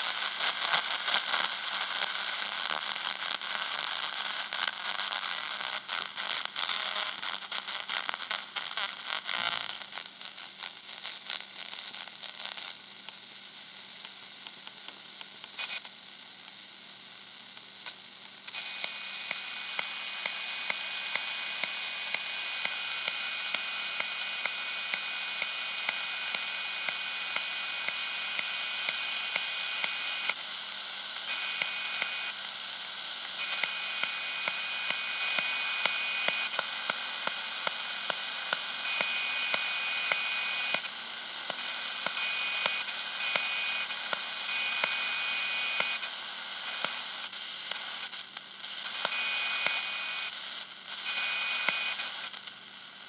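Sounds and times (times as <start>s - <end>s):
faint steady whine: 0.0s - 53.0s
radio static hiss: 0.0s - 53.0s.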